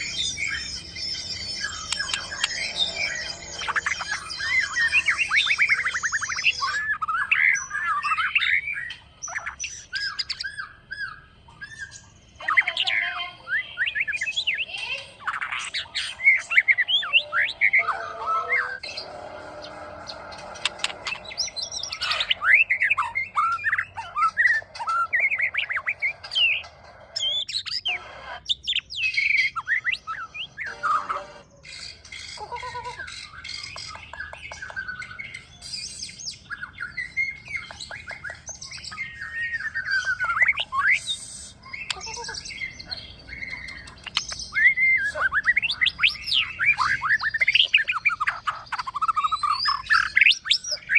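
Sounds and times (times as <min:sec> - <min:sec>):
bird singing whistled notes: 0:00.0 - 0:19.1, 0:20.1 - 0:26.6, 0:27.2 - 0:31.2, 0:33.3 - 0:50.9.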